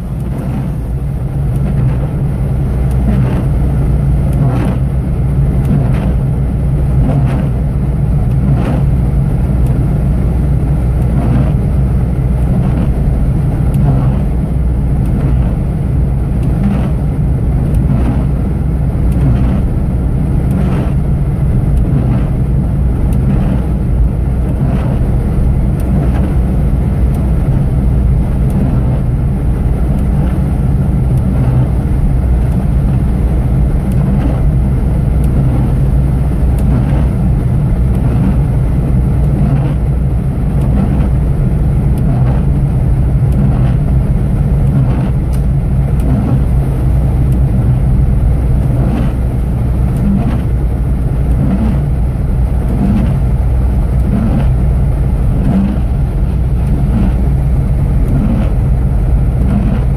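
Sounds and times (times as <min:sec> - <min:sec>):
car engine hum: 0:00.0 - 0:59.9
windscreen wipers swishing: 0:00.0 - 0:59.9.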